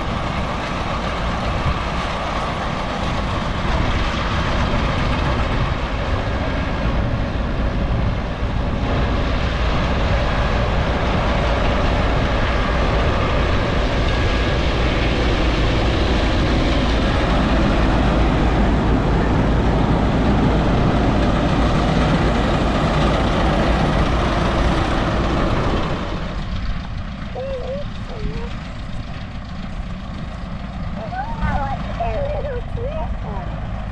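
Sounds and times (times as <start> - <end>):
tractor running: 0.0 - 33.9.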